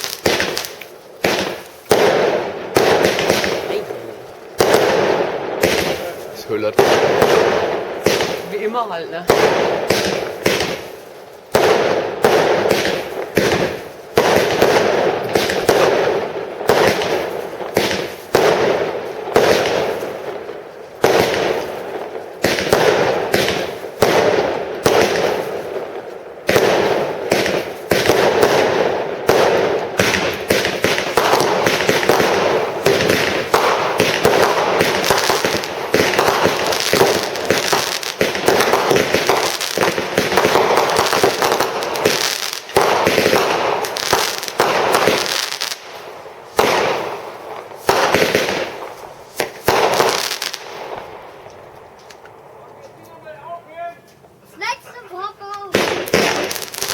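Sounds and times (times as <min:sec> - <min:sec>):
fireworks firing rapid shots: 0:00.0 - 0:52.2, 0:54.6 - 0:56.9.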